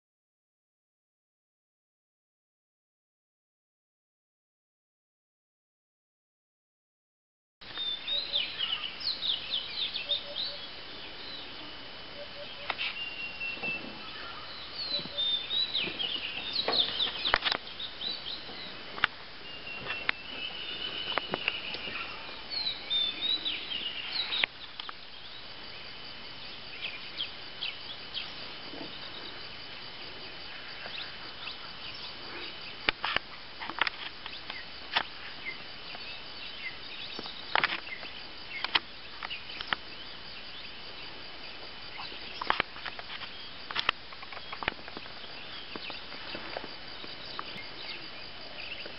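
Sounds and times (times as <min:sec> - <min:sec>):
birds calling: 0:07.6 - 0:48.9
thin steady high whine: 0:07.6 - 0:48.9.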